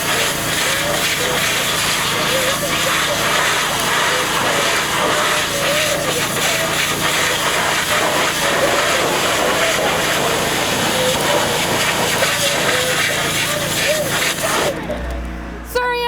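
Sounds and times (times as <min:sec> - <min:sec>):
pressure washer jet hissing: 0:00.0 - 0:14.9.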